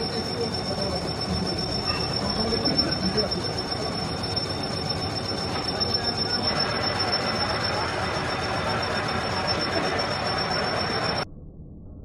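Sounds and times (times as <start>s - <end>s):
metal lathe cutting: 0.0s - 11.2s
high steady whine: 0.0s - 11.3s.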